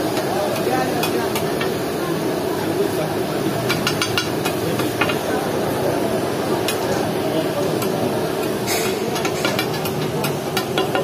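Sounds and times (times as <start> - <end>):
vegetables sizzling on a griddle: 0.0 - 11.0.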